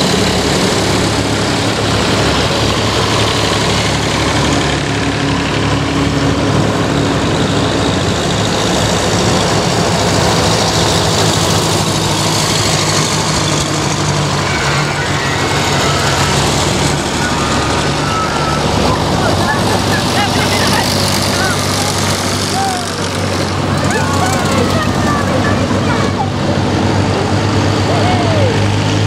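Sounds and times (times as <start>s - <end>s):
tractors driving past: 0.0s - 29.0s.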